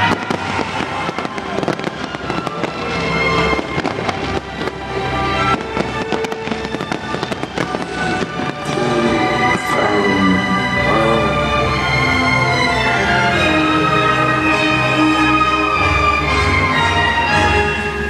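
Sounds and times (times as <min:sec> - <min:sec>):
loud show music: 0:00.0 - 0:18.0.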